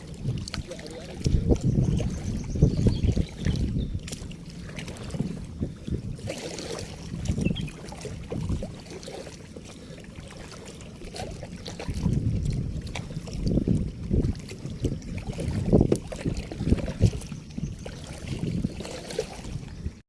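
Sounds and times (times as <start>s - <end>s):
paddle splashing in water: 0.0s - 20.0s
wind buffeting microphone: 0.0s - 20.0s.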